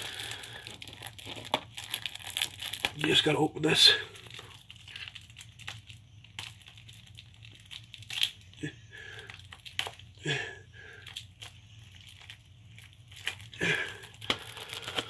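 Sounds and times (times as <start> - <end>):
plastic shrink wrap crinkling and tearing: 0.0 - 15.0.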